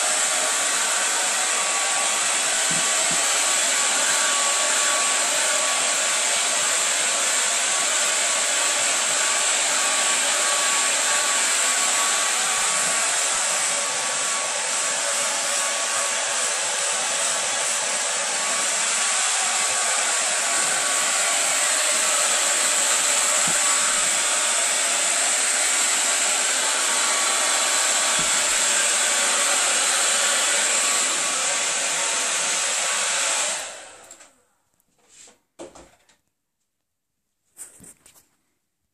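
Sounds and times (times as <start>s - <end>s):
hair dryer blowing with whine: 0.0s - 34.3s.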